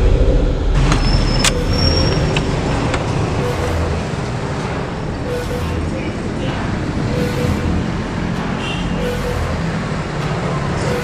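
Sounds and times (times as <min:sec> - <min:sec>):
deep rumbling drone: 0:00.0 - 0:11.0.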